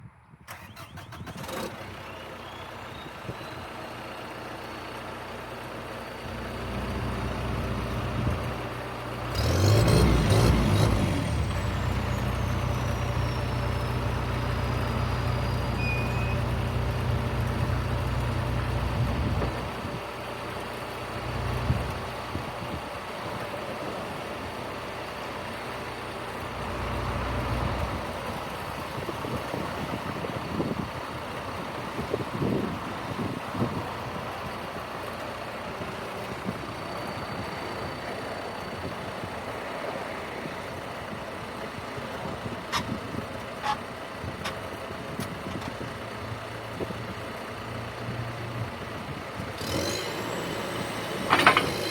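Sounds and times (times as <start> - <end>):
backhoe diesel engine revving: 0.5 - 20.0, 20.6 - 51.9.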